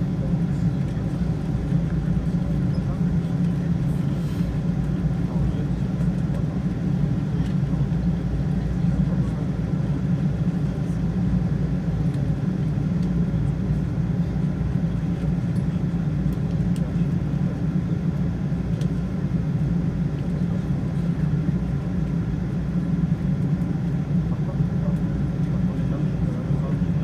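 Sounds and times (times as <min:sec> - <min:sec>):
airplane cabin engine rumble: 0:00.0 - 0:27.0.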